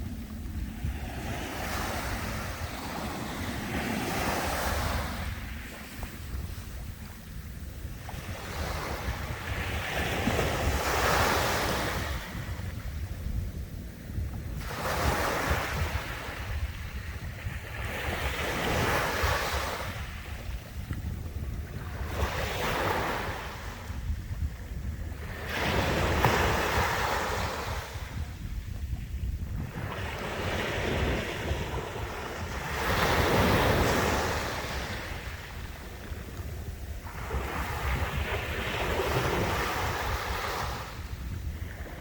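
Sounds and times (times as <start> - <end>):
sea waves washing ashore: 0.0 - 42.0
wind rumble on microphone: 0.0 - 42.0.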